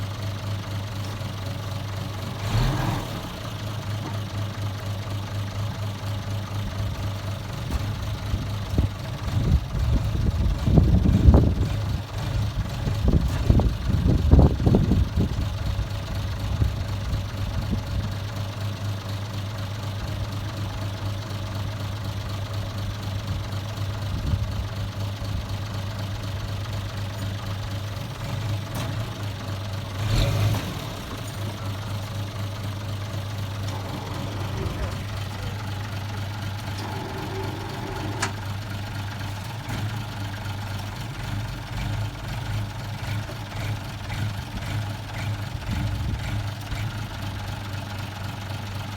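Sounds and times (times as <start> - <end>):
vehicle engine idling: 0.0 - 48.9.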